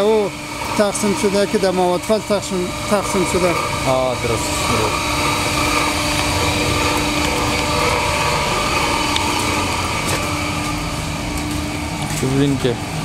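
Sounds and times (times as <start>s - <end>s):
factory machinery humming: 0.0s - 13.0s
steady tone: 0.1s - 12.0s.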